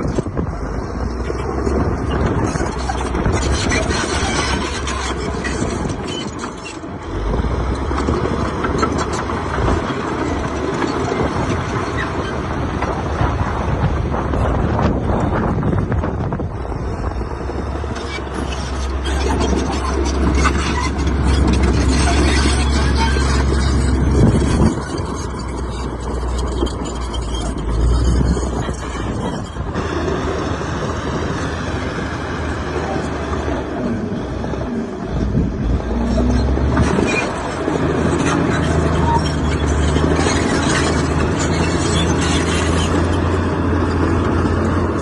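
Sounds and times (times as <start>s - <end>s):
heavy diesel engine drone: 0.0s - 45.0s.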